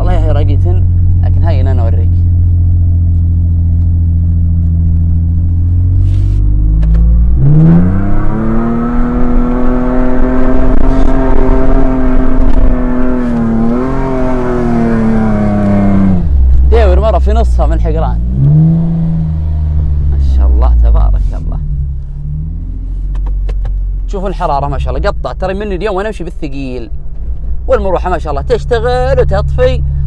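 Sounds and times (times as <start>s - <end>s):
suv engine revving: 2.1s - 30.0s.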